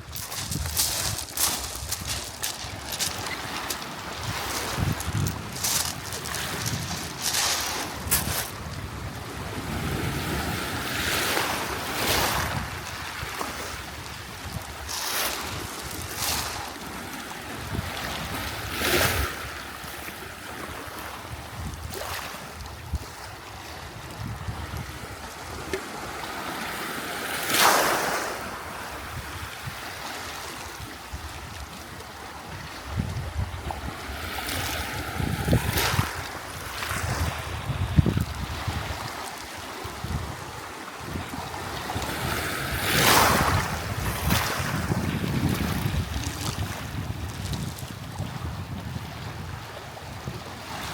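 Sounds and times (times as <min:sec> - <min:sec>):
wind rumbling on microphone: 0:00.0 - 0:26.2, 0:28.1 - 0:50.9
sea waves washing onto shore: 0:00.0 - 0:50.9.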